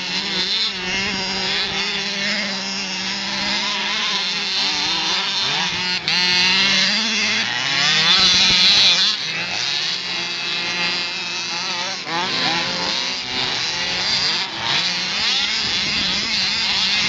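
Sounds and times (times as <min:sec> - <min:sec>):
rc buggy engines buzzing and revving: 0:00.0 - 0:17.0.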